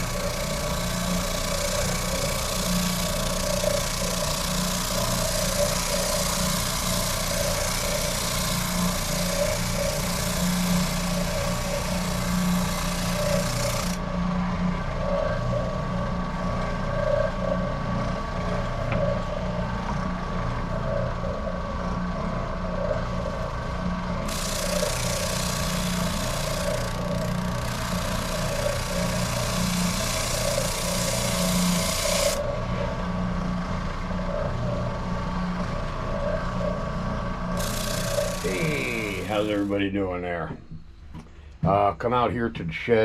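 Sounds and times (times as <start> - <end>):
power tool motor humming: 0.0 - 39.8.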